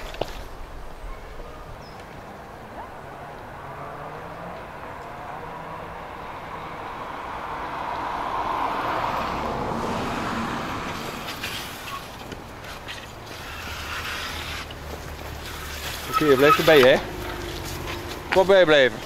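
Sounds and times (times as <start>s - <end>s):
van passing: 0.0s - 19.0s.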